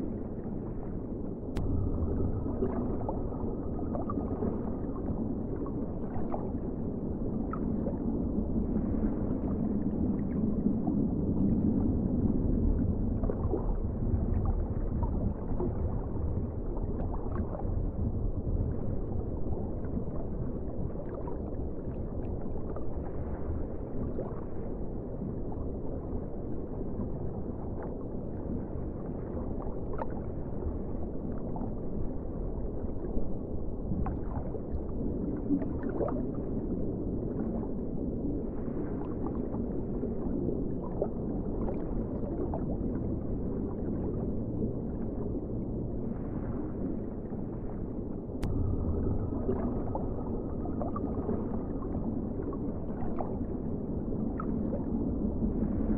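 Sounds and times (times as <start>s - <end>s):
muffled underwater rumble: 0.0s - 55.9s
underwater gurgling: 0.0s - 55.9s.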